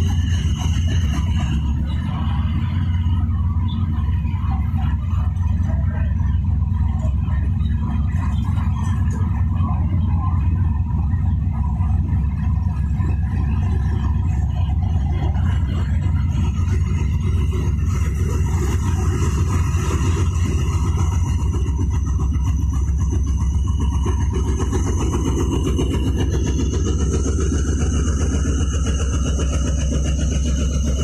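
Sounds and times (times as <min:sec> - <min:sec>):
locomotive engine rumbling: 0:00.0 - 0:31.0.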